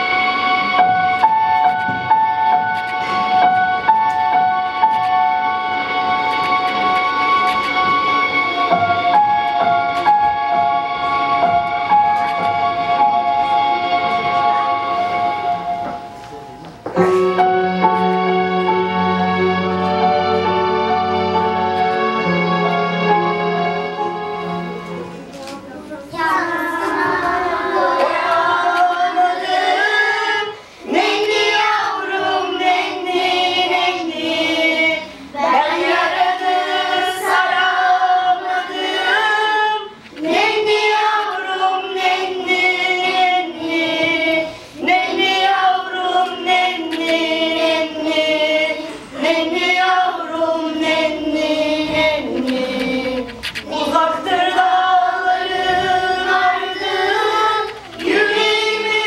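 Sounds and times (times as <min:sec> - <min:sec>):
children singing together: 0:00.0 - 0:16.2, 0:25.9 - 0:59.0.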